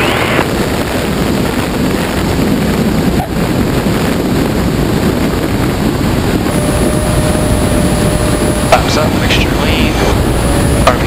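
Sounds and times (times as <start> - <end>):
airplane engine idling: 0.0 - 11.0
wind rushing over microphone: 0.0 - 11.0.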